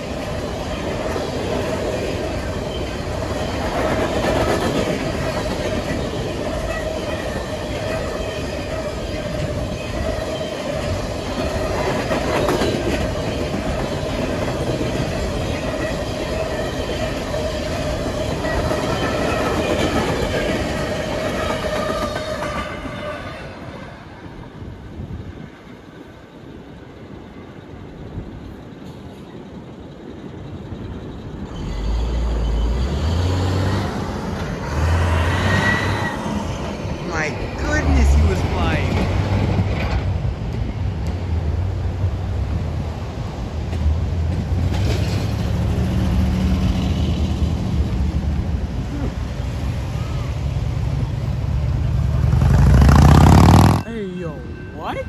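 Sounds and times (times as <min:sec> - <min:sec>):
train cars rumbling over rails: 0:00.0 - 0:55.0.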